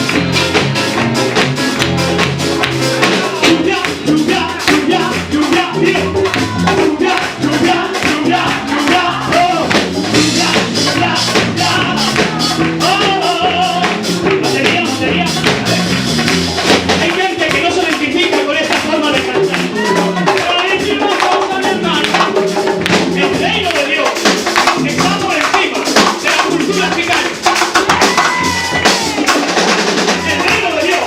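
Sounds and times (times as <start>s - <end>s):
person singing: 0.0s - 31.0s
rumba percussion beat: 0.0s - 31.0s.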